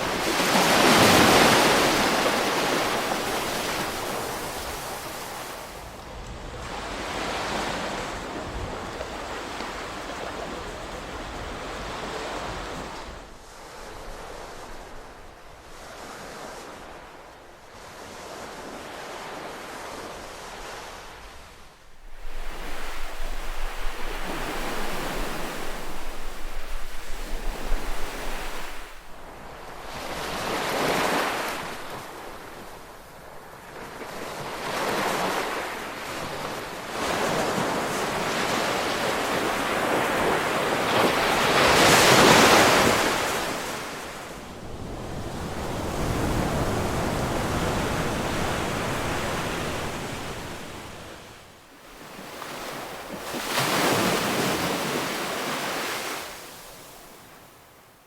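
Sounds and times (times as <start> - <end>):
ocean waves breaking: 0.0 - 57.6.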